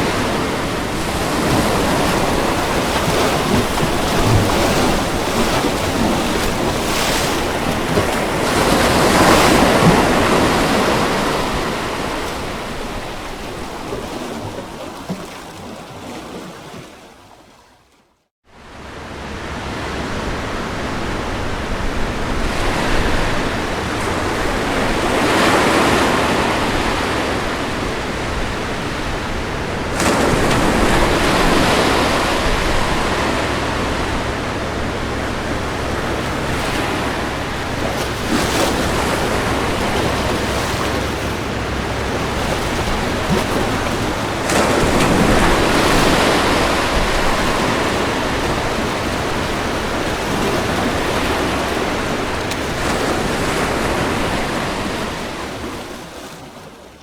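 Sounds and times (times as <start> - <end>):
ocean waves washing onto beach: 0.0 - 17.5, 18.5 - 57.0.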